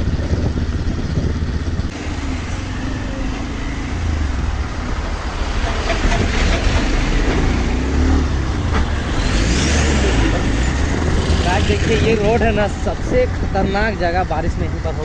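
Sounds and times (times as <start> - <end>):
vehicle driving on rough road: 0.0 - 15.0.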